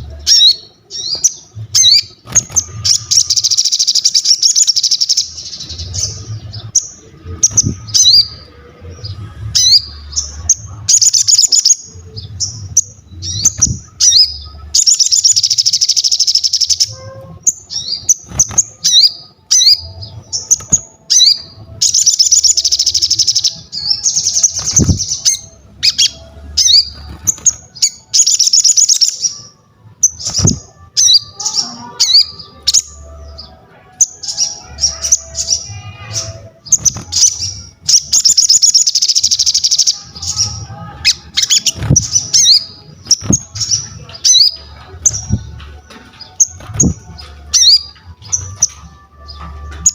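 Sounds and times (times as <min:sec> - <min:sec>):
bird chirps and buzzy trills: 0:00.0 - 0:49.9.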